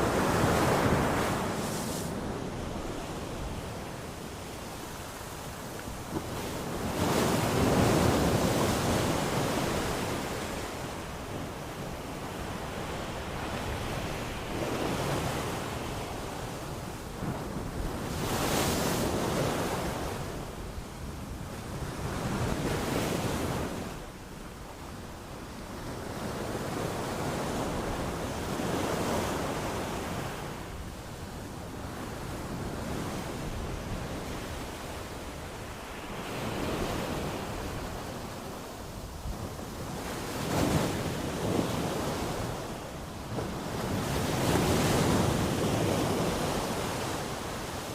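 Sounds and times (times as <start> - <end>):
sea waves breaking on shore: 0.0 - 20.7, 25.9 - 47.9.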